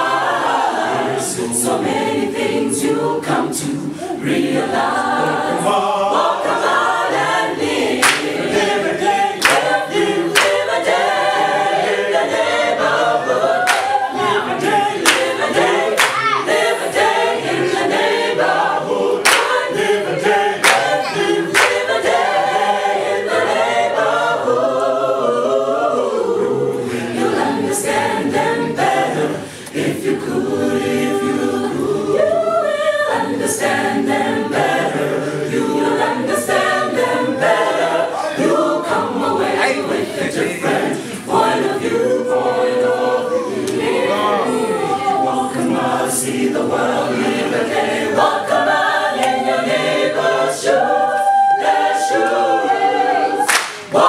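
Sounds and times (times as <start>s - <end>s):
a cappella choir singing: 0.0s - 54.0s.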